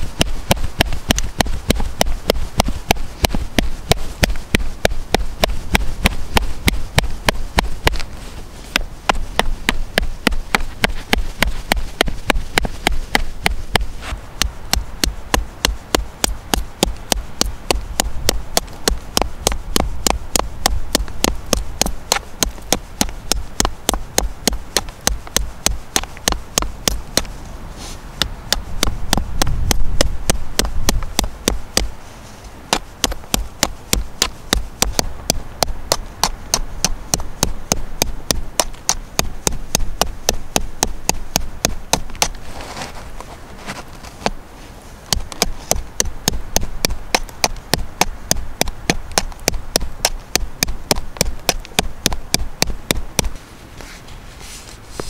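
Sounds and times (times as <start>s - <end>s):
low handling rumble: 0.0s - 55.0s.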